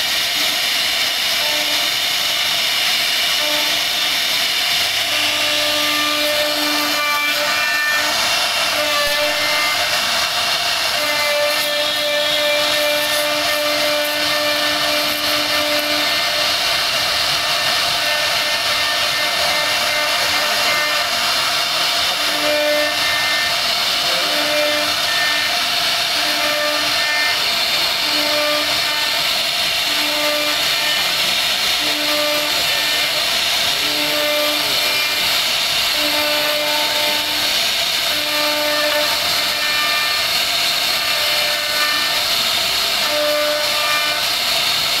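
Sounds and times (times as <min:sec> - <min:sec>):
cnc router carving wood: 0:00.0 - 0:02.4, 0:03.3 - 0:45.0.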